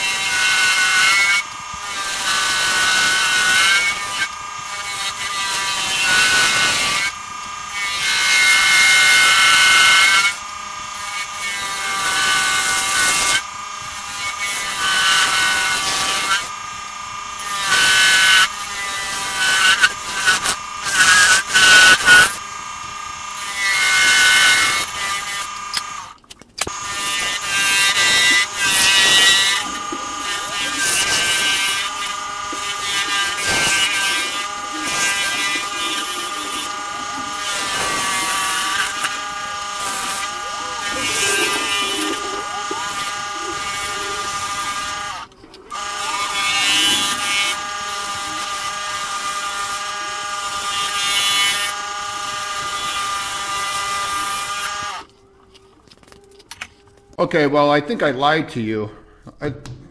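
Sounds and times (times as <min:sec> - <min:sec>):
wood lathe cutting whine: 0:00.0 - 0:55.2.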